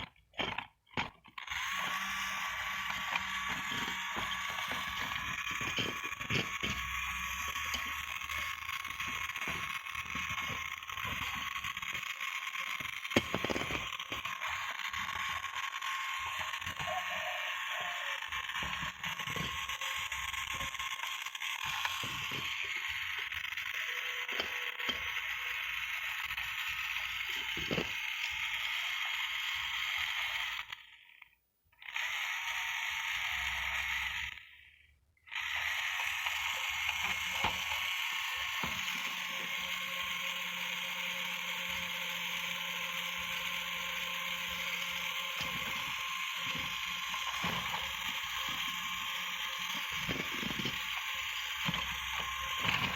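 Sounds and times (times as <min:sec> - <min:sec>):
mini vacuum cleaner whining: 0:00.0 - 0:52.9.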